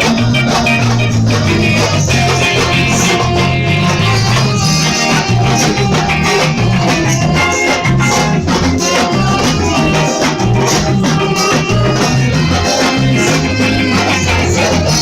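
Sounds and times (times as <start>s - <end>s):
upbeat instrumental band music: 0.0s - 15.0s.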